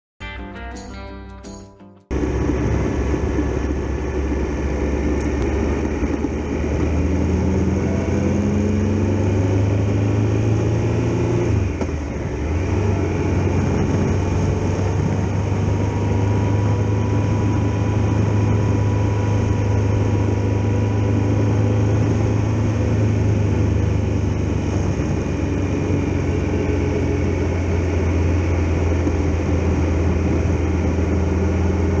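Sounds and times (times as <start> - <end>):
motorcycle engine running: 1.5 - 32.0
wind and road rush: 2.1 - 32.0.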